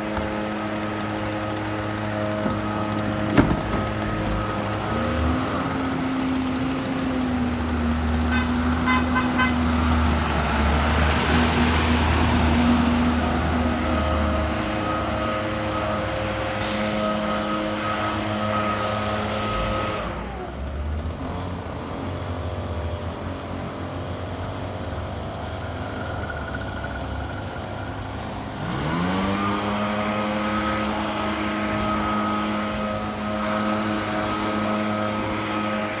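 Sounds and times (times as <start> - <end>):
bus driving past: 0.0 - 36.0
engine revving from idle: 0.0 - 36.0
road traffic: 0.0 - 36.0.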